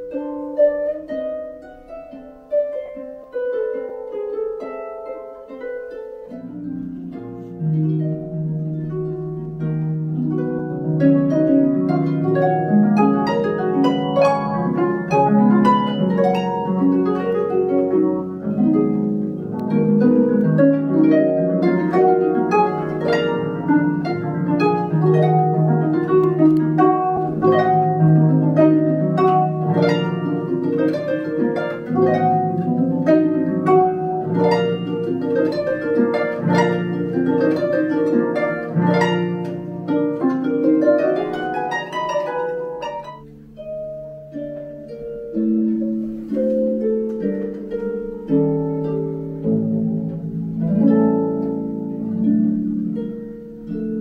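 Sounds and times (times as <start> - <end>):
harp playing: 0.0 - 54.0.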